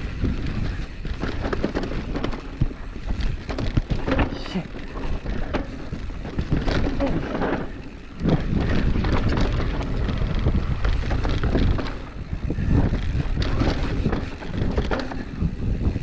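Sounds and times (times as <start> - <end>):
bike rattling and knocking: 0.0 - 16.0
wind rushing over microphone: 0.0 - 16.0.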